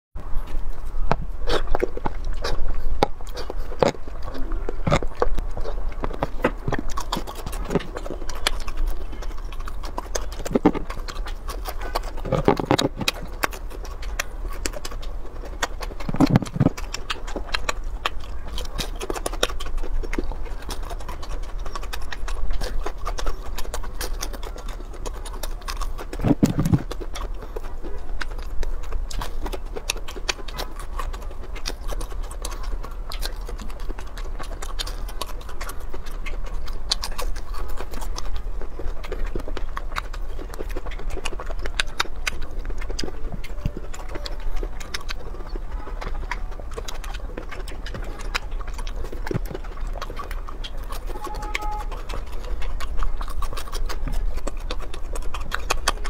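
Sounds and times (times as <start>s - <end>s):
crunching and chewing fried food: 0.2s - 56.0s
steady low hum: 0.2s - 56.0s
wet mouth clicks and smacks: 0.5s - 56.0s.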